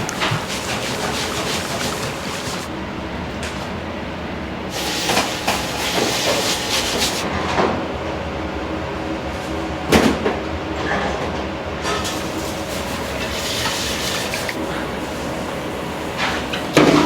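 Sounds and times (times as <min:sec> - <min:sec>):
gas burners roaring: 0:00.0 - 0:17.0.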